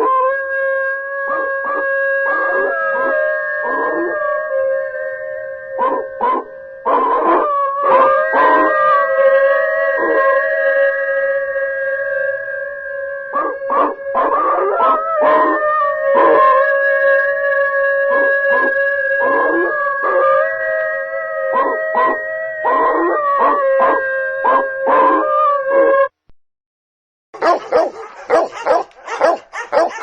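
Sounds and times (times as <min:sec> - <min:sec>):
dogs howling and yelping: 0:00.0 - 0:26.1, 0:27.4 - 0:30.0.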